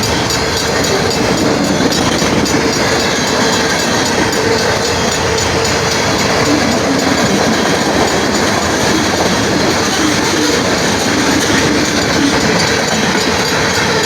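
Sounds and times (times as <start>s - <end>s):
train wheels running over track: 0.0s - 14.0s.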